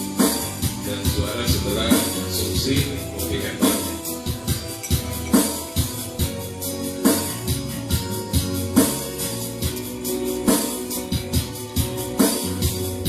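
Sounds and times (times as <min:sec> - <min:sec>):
drum kit beat: 0:00.0 - 0:13.0
instrumental band music: 0:00.0 - 0:13.0.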